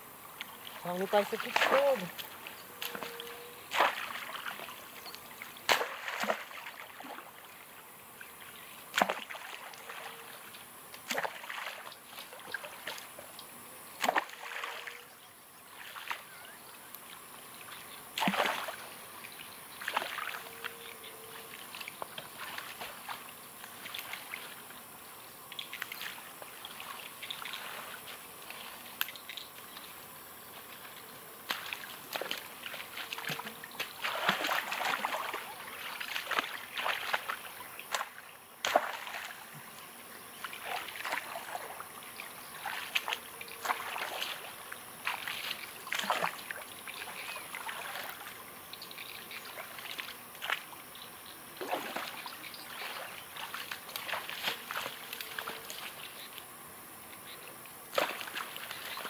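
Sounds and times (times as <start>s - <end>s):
river water splashing: 0.0s - 59.0s.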